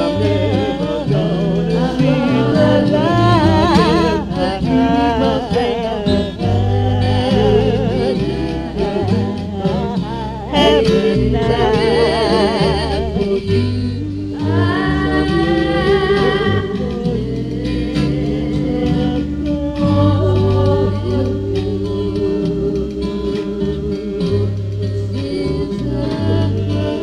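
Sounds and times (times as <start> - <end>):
stepping bass line: 0.0 - 26.7.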